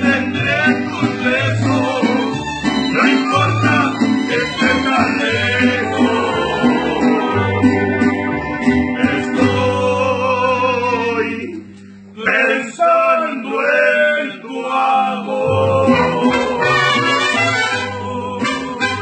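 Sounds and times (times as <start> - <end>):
male voices singing together: 0.0 - 7.8, 9.0 - 11.6, 12.2 - 19.0
strummed guitars: 0.0 - 12.0, 15.5 - 19.0
bass guitar: 0.0 - 12.2, 15.5 - 19.0.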